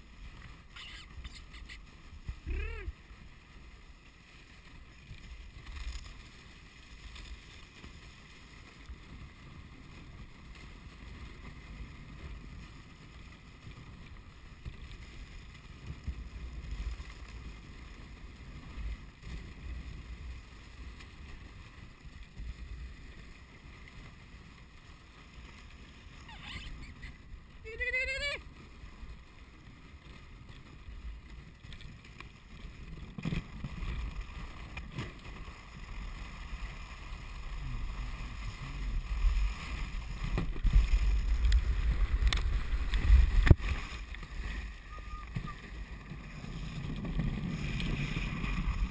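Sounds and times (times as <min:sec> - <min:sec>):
sled runners sliding over snow: 0:00.0 - 0:48.9.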